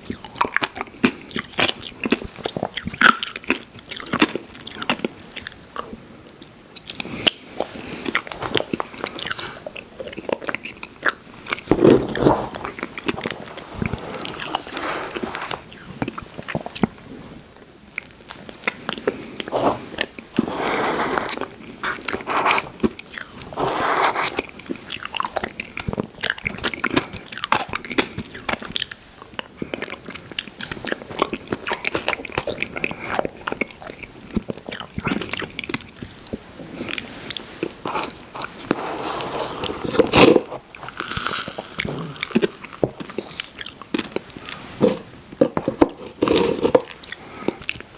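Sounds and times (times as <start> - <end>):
person chewing wet mouth sounds: 0.0 - 6.0, 6.8 - 16.9, 21.2 - 44.6.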